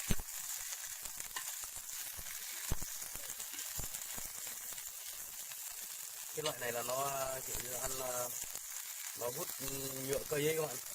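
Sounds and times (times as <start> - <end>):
food sizzling in hot fat: 0.0 - 10.9
sharp pops of frying: 0.0 - 10.9.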